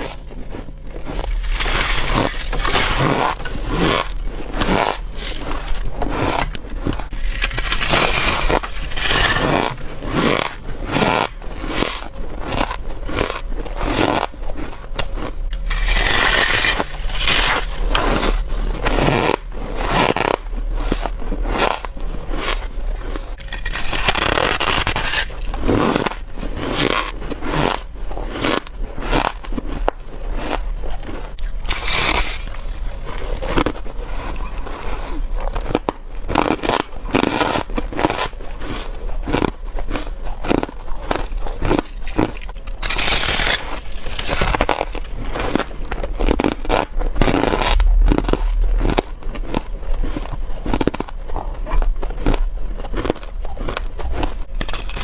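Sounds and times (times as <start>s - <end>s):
chewing crunchy frost: 0.0s - 55.0s.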